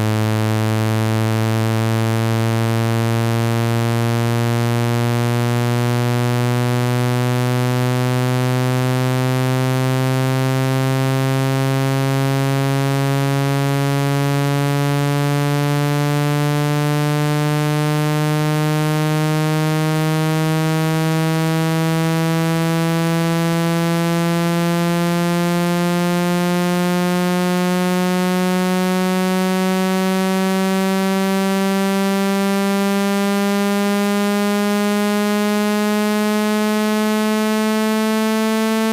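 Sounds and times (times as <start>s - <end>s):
synthetic low buzzing tone: 0.0s - 38.9s.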